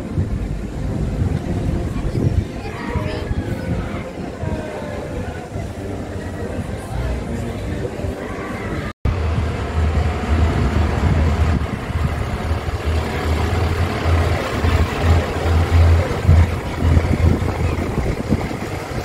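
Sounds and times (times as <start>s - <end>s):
fire engine diesel engine rumbling: 0.0s - 19.0s.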